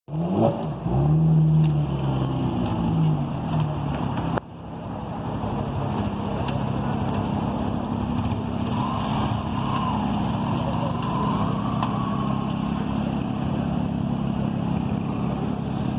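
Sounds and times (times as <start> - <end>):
car engine rumbling and revving: 0.1 - 15.9.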